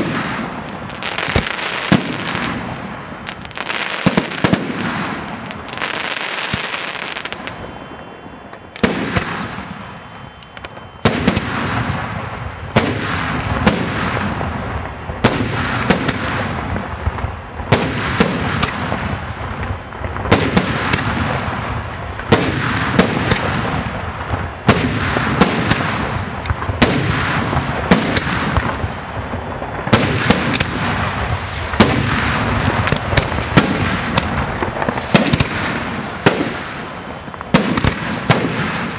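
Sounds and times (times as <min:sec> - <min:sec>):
firework shells bursting: 0:00.0 - 0:38.9
fireworks crackling: 0:00.0 - 0:38.9.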